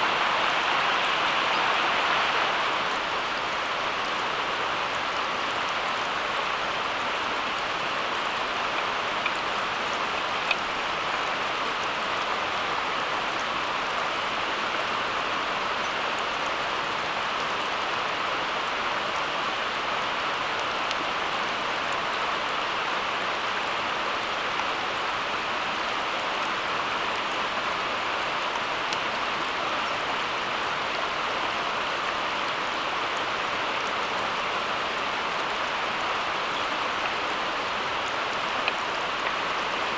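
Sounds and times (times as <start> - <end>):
steady water noise: 0.0 - 39.9.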